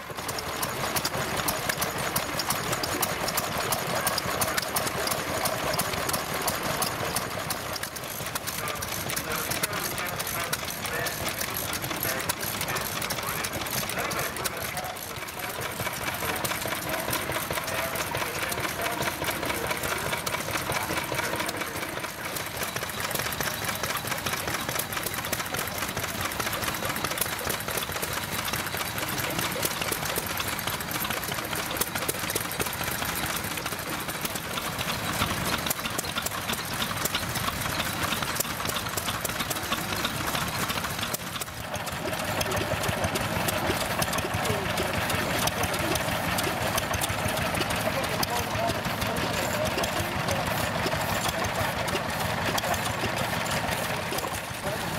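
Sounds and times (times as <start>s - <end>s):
stationary engines clattering: 0.0s - 54.9s.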